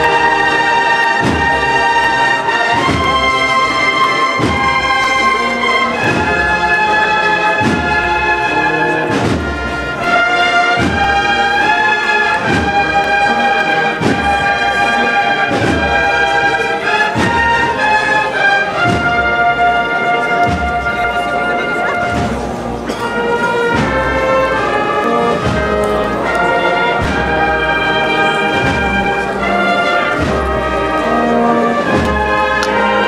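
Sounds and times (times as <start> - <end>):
bugle and drum band march: 0.0 - 33.0
held brass melody notes: 0.0 - 33.0.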